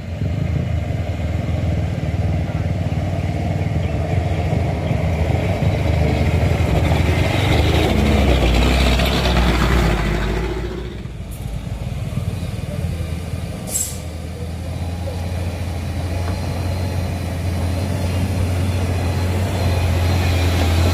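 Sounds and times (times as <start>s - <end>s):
vehicle engine working hard: 0.0s - 20.9s.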